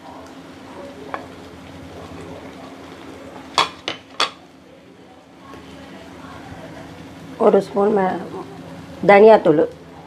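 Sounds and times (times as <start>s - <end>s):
gravy sizzling: 0.0s - 10.0s.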